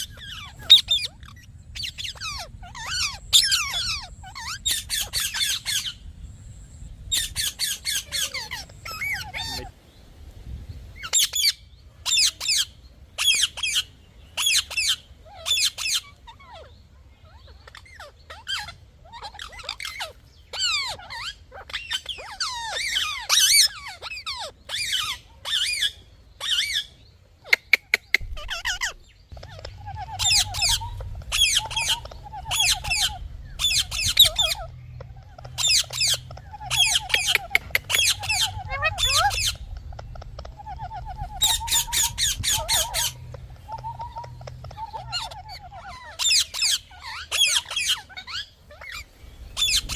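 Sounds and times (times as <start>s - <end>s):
parrot calling: 0.0s - 6.1s, 7.0s - 9.8s, 11.0s - 49.9s.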